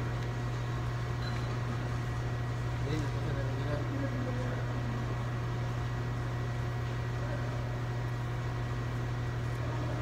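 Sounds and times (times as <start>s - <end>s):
mechanical hum with hiss: 0.0s - 10.0s.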